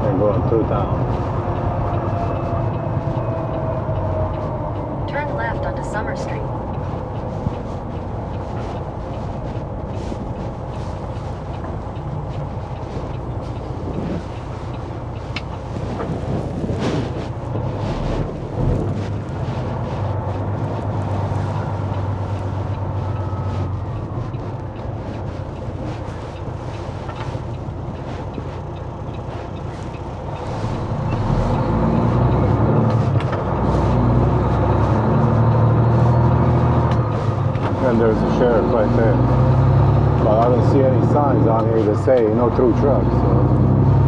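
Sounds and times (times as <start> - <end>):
truck engine running: 0.0 - 44.0.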